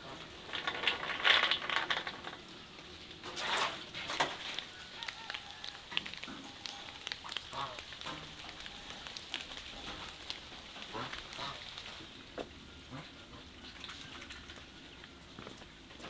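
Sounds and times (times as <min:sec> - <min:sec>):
crackly rustling noises: 0:00.0 - 0:16.0.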